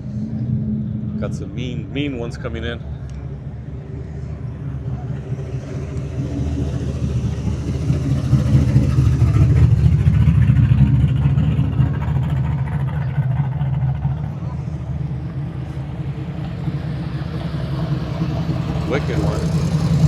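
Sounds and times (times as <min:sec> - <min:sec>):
car engine and exhaust passing: 0:00.0 - 0:20.0.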